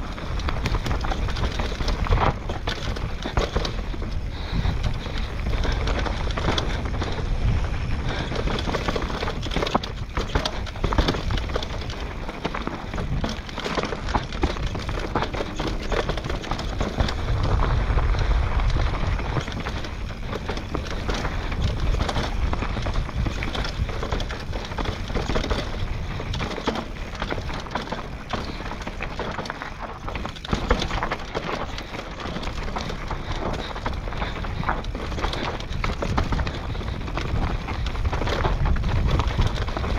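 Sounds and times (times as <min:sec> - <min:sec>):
bike rattling over rough ground: 0:00.0 - 0:39.9
wind rumble on microphone: 0:00.0 - 0:39.9.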